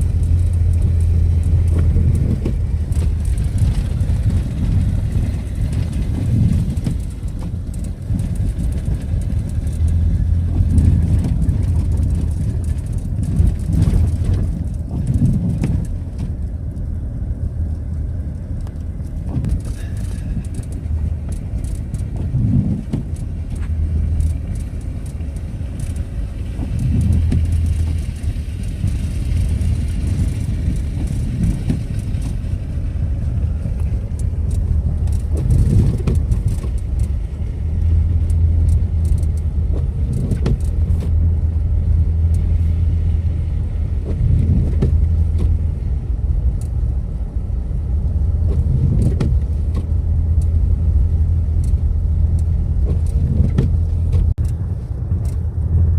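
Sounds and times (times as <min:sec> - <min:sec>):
vehicle engine and road rumble: 0:00.0 - 0:55.9.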